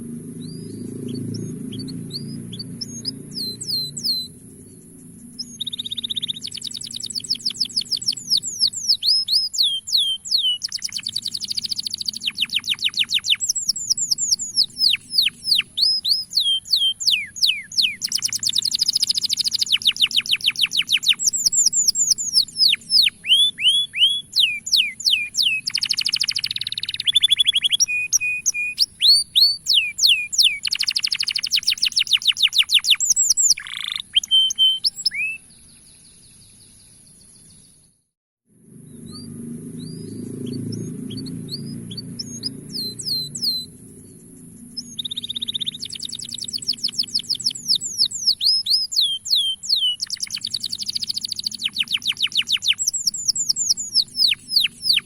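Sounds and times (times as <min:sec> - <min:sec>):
canary singing trills: 0:00.3 - 0:37.8, 0:38.8 - 0:55.0.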